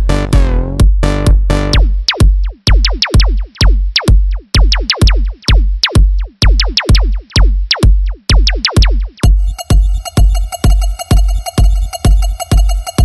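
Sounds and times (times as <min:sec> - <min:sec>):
electronic dance music: 0:00.0 - 0:13.0
kick drum: 0:00.0 - 0:13.0.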